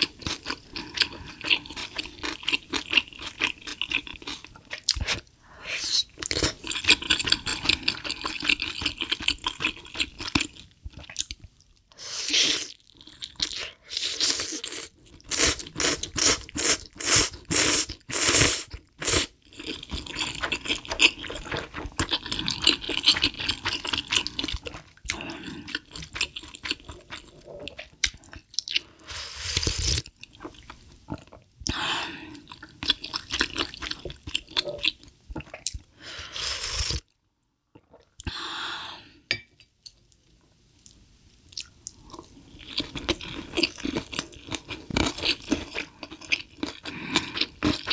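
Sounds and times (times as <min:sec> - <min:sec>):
chewing and crunching food: 0:00.0 - 0:05.3, 0:06.1 - 0:11.9, 0:12.7 - 0:35.9, 0:40.7 - 0:47.9.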